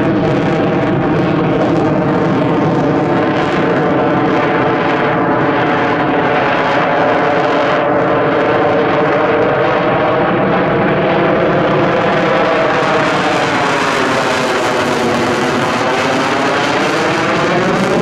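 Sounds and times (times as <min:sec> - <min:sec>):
jet fighter roar: 0:00.0 - 0:18.0.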